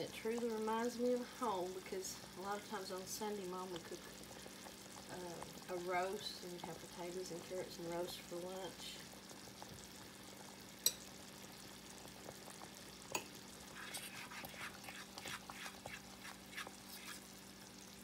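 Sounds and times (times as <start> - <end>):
thick gravy bubbling: 0.0 - 18.0.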